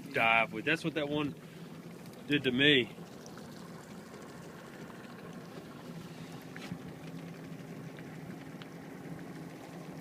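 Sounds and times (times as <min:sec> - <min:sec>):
boat motor humming: 0:00.0 - 0:10.0.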